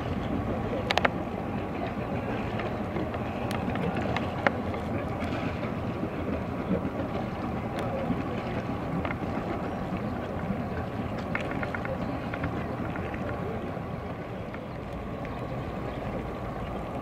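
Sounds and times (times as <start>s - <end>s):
faint distant voices: 0.0s - 17.0s.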